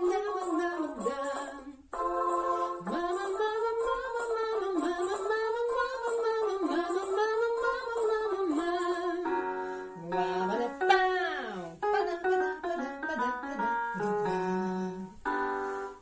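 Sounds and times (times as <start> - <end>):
woman singing vocal warm-up: 0.0 - 15.3.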